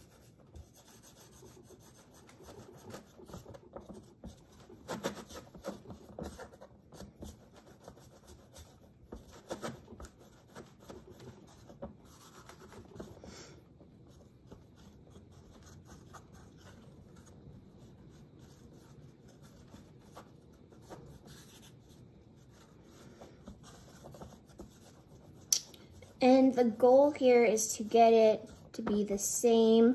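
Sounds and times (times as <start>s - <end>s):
clay rubbing with light taps: 0.0s - 26.2s.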